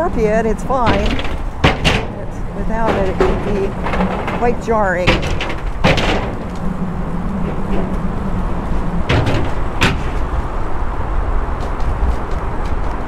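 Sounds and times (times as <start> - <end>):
wheels knocking on deck joints: 0.0 - 12.8
trike wheels rumbling: 0.0 - 13.0.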